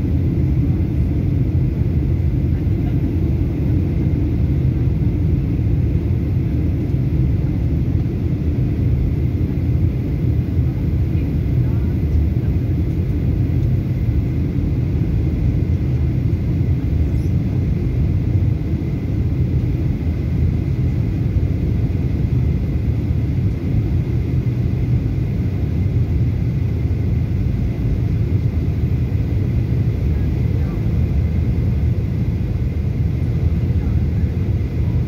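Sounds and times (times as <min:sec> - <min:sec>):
airliner cabin rumble: 0:00.0 - 0:35.0
faint high whine: 0:00.0 - 0:35.0.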